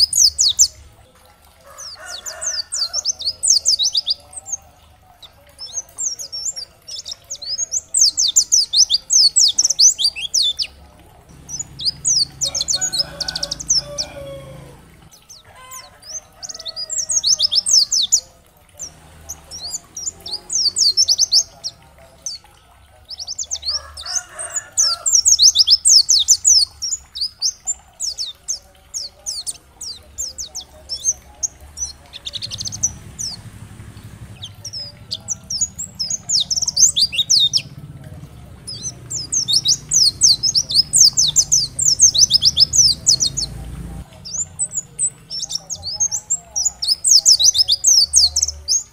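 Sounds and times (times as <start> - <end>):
bird twittering chirps: 0.0 - 0.8, 1.8 - 48.9.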